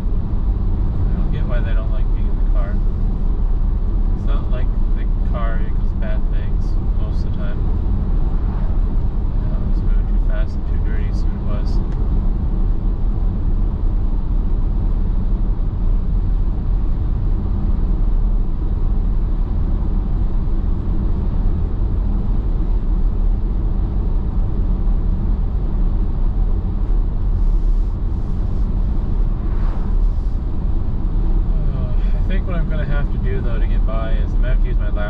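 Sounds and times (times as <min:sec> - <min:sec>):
car road noise at highway speed: 0:00.0 - 0:35.0.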